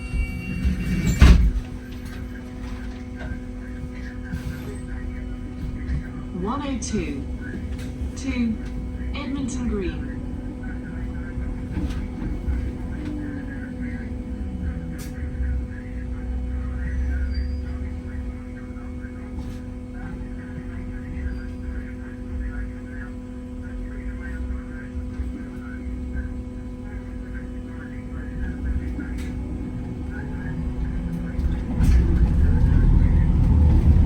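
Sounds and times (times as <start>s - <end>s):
bus electrical hum: 0.0s - 34.0s.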